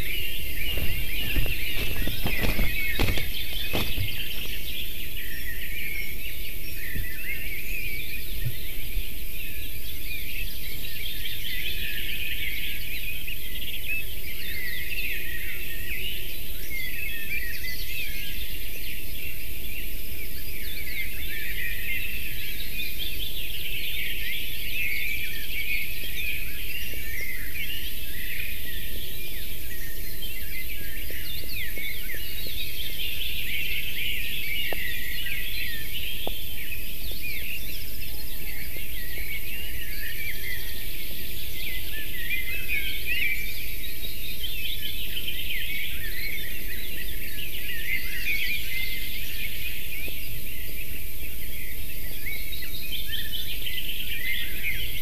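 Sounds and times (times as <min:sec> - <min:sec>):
low background noise: 0:00.0 - 0:55.0
songbirds chirping and trilling: 0:00.0 - 0:55.0.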